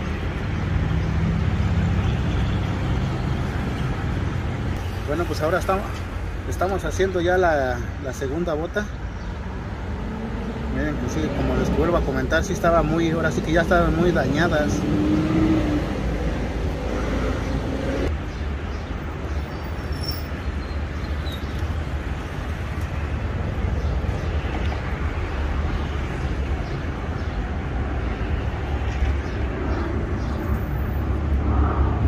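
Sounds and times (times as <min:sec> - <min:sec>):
low traffic rumble: 0:00.0 - 0:32.0.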